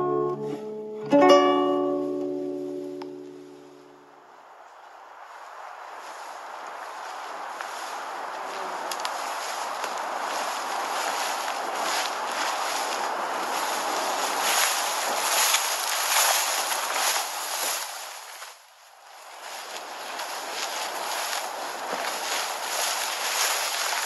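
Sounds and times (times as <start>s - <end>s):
footsteps through tall grass: 1.9s - 24.0s.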